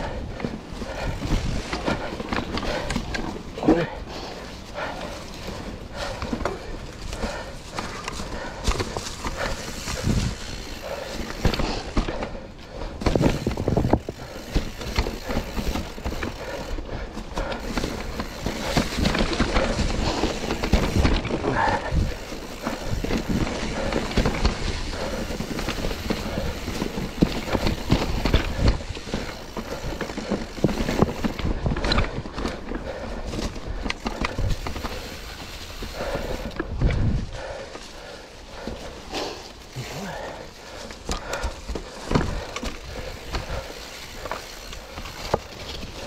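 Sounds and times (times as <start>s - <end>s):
bike chain and frame rattling: 0.0s - 46.0s
bike tyres crunching over rocks: 0.0s - 46.0s.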